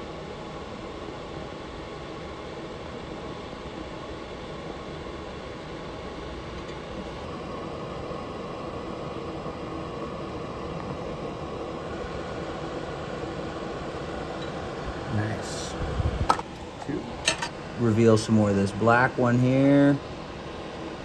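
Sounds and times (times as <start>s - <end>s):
extractor fan hissing and humming: 0.0s - 21.0s.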